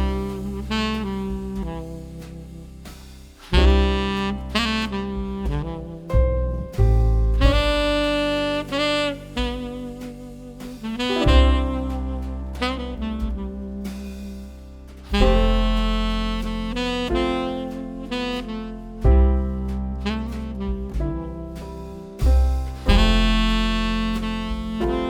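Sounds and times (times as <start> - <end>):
bass line: 0.0 - 25.0
saxophone melody: 0.0 - 25.0.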